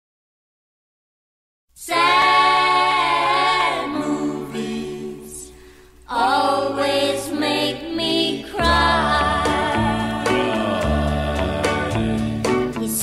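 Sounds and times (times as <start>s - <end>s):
a cappella singing voices: 1.8s - 13.0s.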